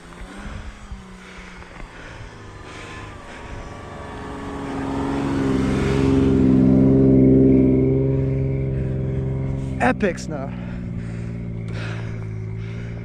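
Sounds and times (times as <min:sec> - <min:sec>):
truck engine in deep snow: 0:00.0 - 0:13.0.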